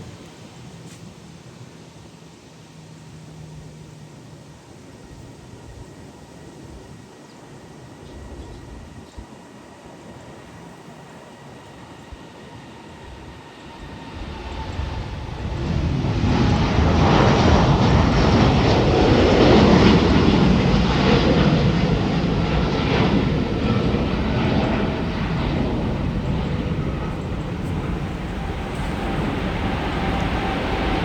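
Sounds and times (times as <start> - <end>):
jet airliner passing: 2.7 - 31.0.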